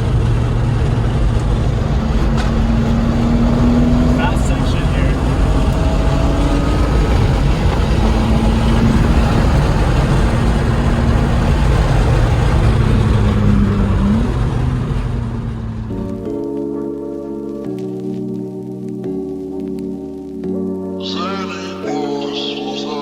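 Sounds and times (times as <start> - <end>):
road and wind noise: 0.0 - 20.4
car engine cruising: 0.0 - 23.0.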